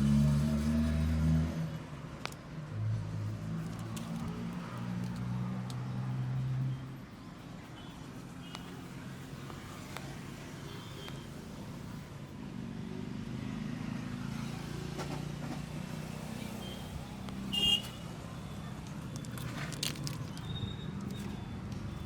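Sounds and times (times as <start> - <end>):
road noise: 0.0 - 22.0
vehicle engine humming: 2.0 - 22.0.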